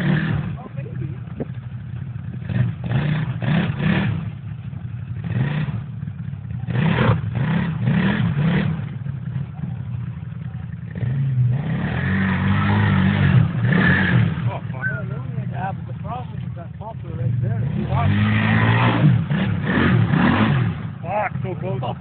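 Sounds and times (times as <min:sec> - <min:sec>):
engine revving under load: 0:00.0 - 0:09.6, 0:10.8 - 0:22.0.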